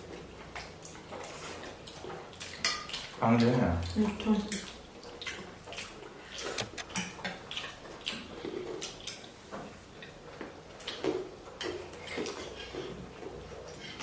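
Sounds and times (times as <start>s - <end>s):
chewing and slurping soup: 0.0s - 3.2s, 4.5s - 14.0s.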